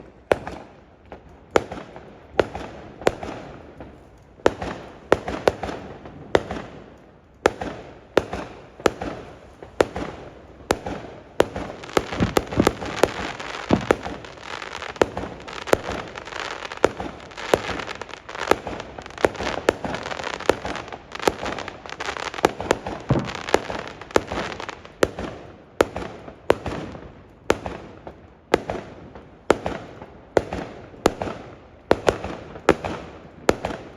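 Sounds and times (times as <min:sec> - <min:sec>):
fireworks banging and crackling: 0:00.0 - 0:33.9.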